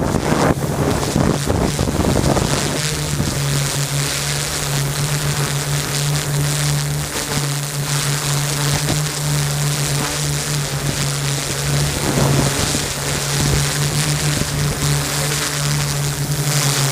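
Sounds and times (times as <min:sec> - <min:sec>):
wind buffeting microphone: 0:00.0 - 0:16.5
drone propellers humming: 0:00.0 - 0:16.9.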